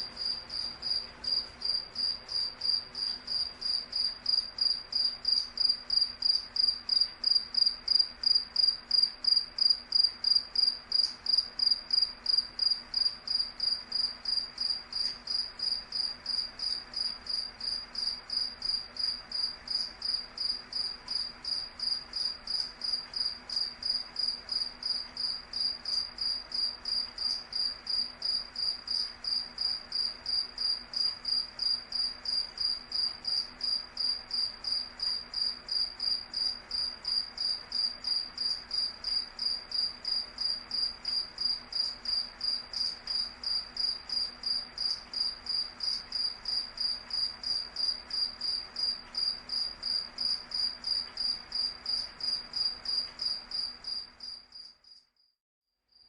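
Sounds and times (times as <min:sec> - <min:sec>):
cricket chirping: 0:00.0 - 0:55.3.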